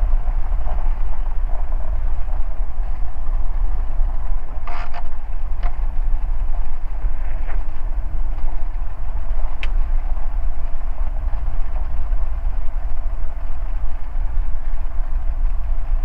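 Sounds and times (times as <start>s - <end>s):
aircraft engine rumbling: 0.0s - 16.0s.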